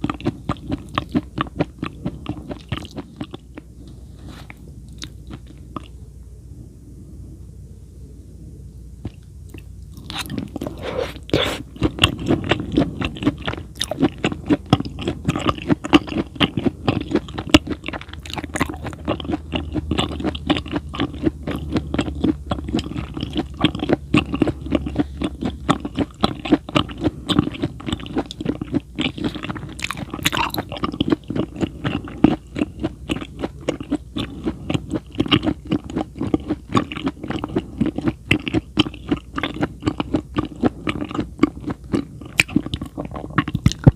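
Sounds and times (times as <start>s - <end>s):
person chewing crunchy food: 0.0s - 6.0s, 9.0s - 43.9s.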